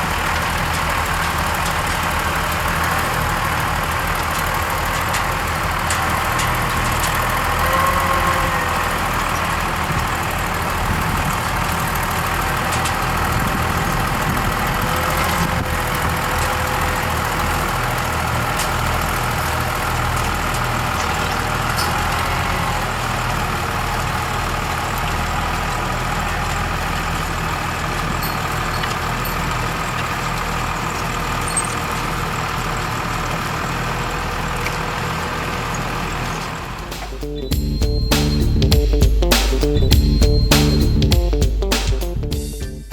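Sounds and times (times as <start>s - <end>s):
diesel tractor engines droning: 0.0s - 42.9s
harvester machinery hum: 0.0s - 42.9s.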